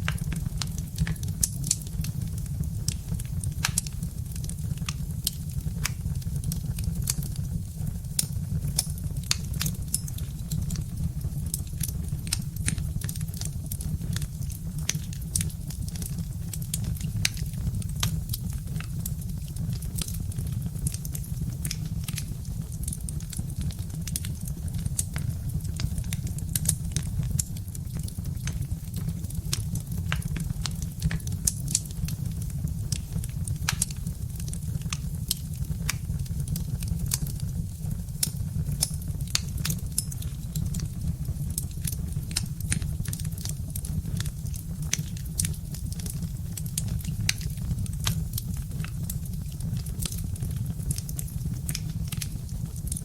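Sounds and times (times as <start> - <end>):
log fire crackling: 0.0 - 53.0.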